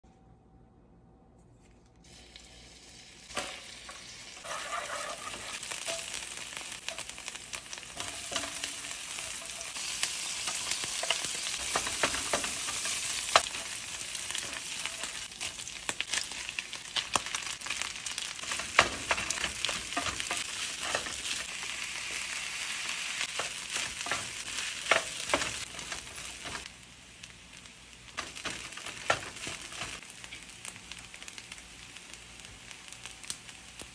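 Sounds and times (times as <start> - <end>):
food sizzling in a skillet: 2.0 - 33.9.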